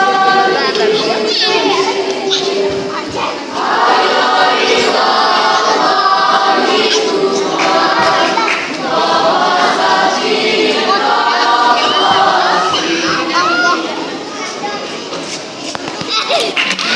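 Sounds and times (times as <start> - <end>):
choir singing sustained notes: 0.0 - 14.3.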